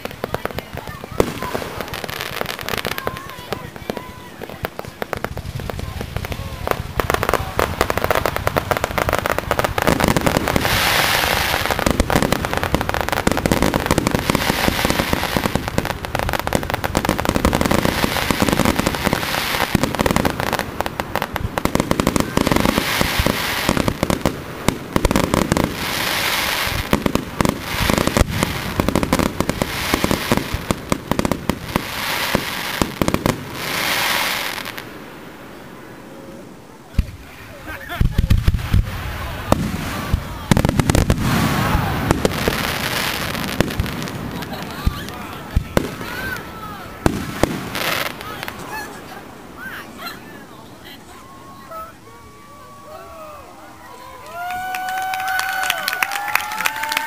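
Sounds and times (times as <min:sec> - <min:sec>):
fireworks popping: 0:00.0 - 0:35.1, 0:36.9 - 0:50.2
fireworks crackling: 0:00.0 - 0:57.0.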